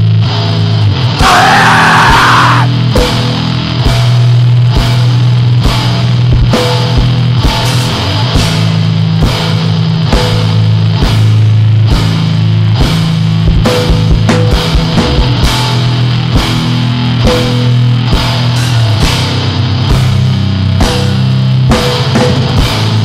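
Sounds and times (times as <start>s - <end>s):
distorted low guitar riff: 0.0s - 23.0s
drum kit hits: 1.2s - 23.0s.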